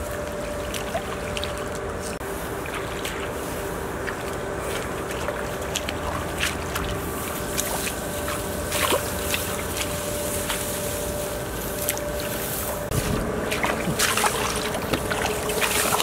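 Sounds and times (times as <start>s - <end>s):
hands rummaging through grass and water: 0.0s - 16.0s
water sloshing: 0.0s - 16.0s
wind rumble on microphone: 2.6s - 16.0s.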